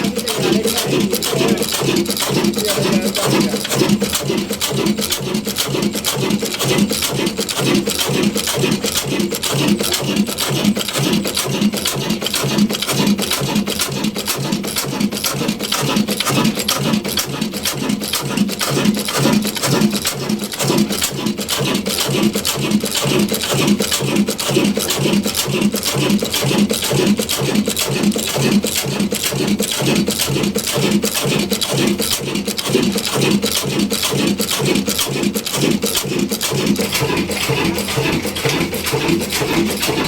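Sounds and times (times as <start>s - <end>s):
stationary diesel engine running: 0.0s - 40.0s.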